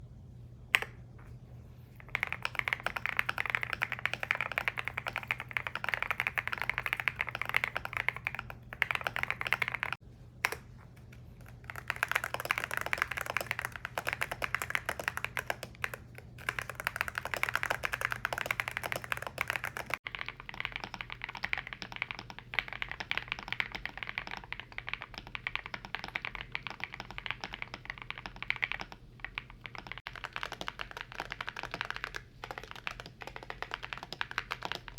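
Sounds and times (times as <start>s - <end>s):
mechanical keyboard typing: 2.1s - 34.9s.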